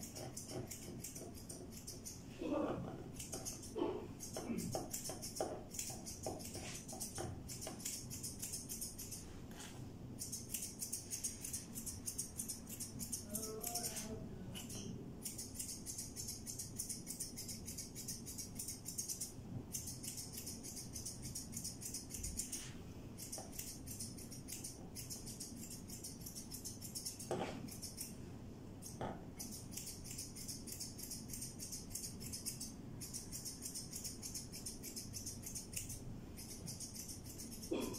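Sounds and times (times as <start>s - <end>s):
scissors snipping fur: 0.0s - 9.3s, 10.2s - 28.2s, 28.8s - 37.9s.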